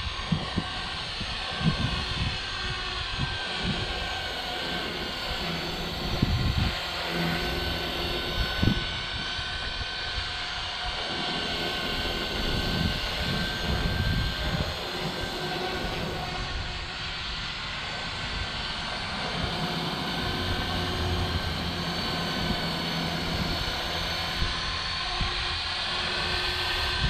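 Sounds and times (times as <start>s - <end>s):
rc helicopter motor whine: 0.0s - 27.0s
wind buffeting microphone: 0.0s - 27.0s.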